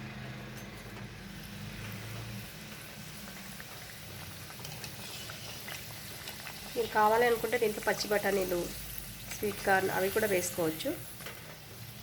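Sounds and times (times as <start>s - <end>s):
food deep-frying in oil: 0.2s - 12.0s.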